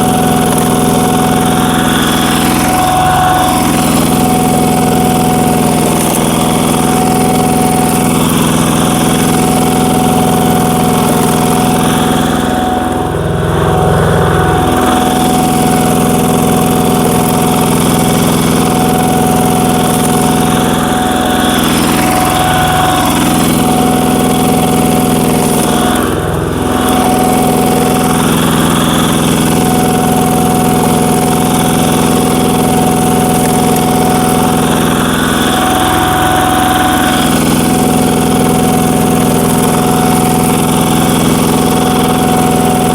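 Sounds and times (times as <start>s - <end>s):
diesel engine at full throttle: 0.0s - 42.9s.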